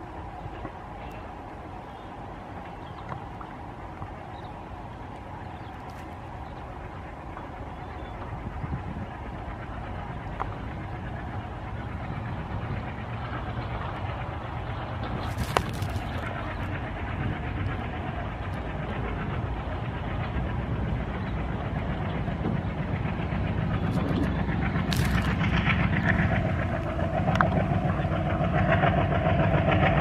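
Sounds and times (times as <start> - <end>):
diesel locomotive engine rumbling: 0.0 - 30.0.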